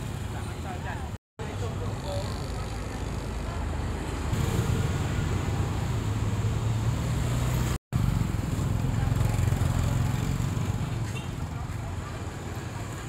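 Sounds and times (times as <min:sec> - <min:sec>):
motorbike engines running: 0:00.0 - 0:13.0
street traffic: 0:00.0 - 0:13.0.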